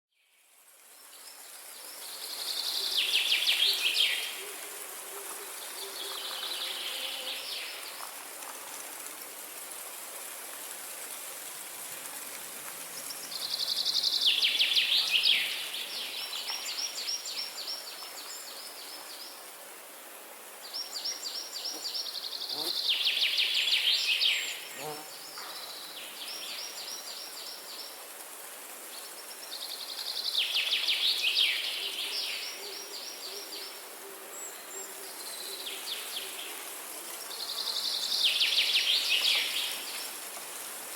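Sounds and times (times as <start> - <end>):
flowing water hiss: 0.3 - 40.9.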